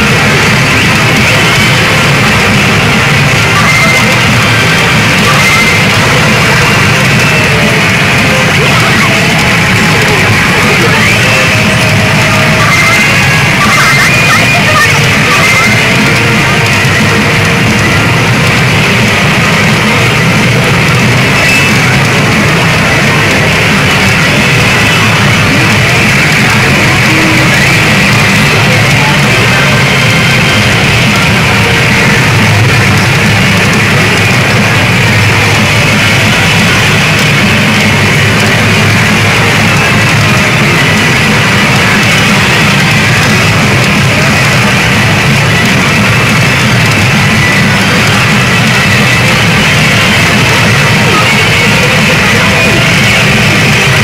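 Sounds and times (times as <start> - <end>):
rock music with guitar: 0.0 - 54.0.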